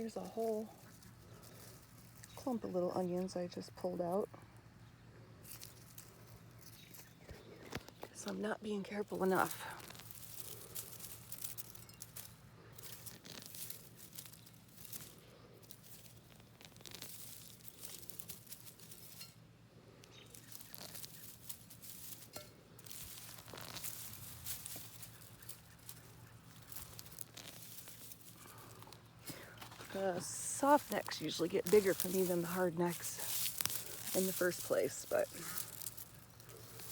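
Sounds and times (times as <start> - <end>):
soil scratching: 0.0 - 4.3, 5.1 - 36.9
dry leaves rustling: 0.0 - 36.9.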